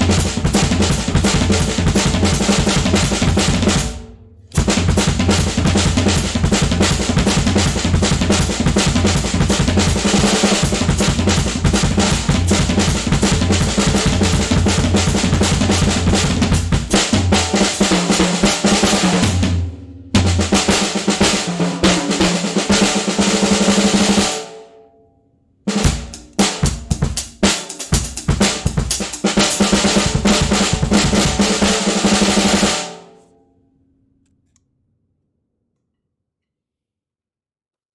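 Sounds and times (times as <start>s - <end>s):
drum kit playing groove: 0.0s - 24.5s, 25.7s - 33.1s.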